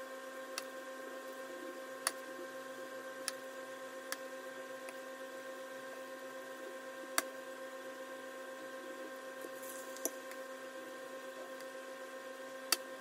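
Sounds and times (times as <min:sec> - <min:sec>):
steady humming tone: 0:00.0 - 0:13.0.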